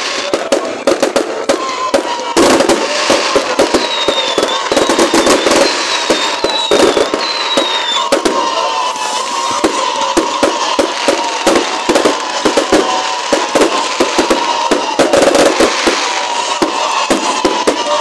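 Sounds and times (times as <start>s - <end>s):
fireworks bangs and crackles: 0.0s - 18.0s
high whistling fireworks: 0.0s - 18.0s.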